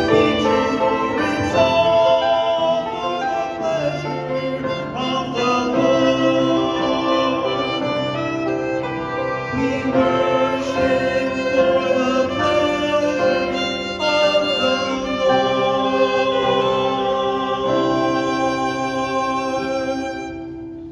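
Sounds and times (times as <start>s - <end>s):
ensemble led by violins: 0.0s - 20.9s.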